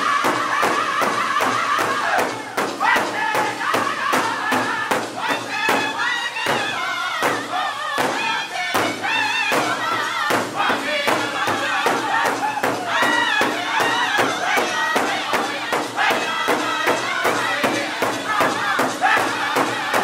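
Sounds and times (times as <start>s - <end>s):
group singing in high voices: 0.0s - 20.0s
large hide drum steady beat: 0.0s - 20.0s.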